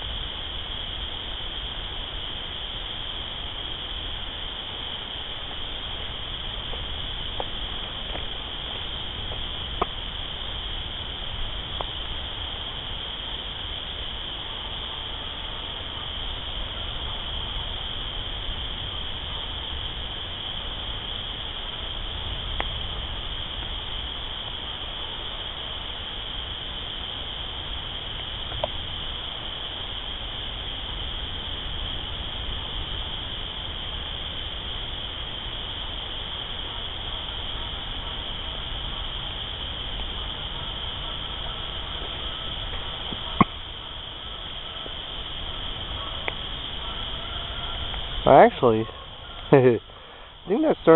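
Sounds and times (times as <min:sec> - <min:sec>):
night animals calling: 0:02.7 - 0:50.9.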